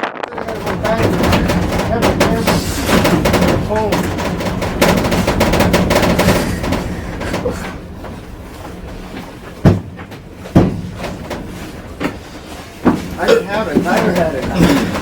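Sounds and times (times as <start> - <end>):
sharp thumps: 0.0 - 15.0
wind buffeting microphone: 0.3 - 15.0.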